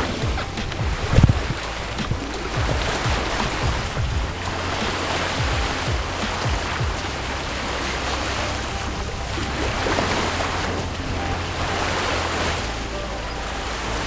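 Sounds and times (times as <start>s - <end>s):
sea water rushing past hull: 0.0s - 14.0s
wind on microphone: 0.0s - 14.0s.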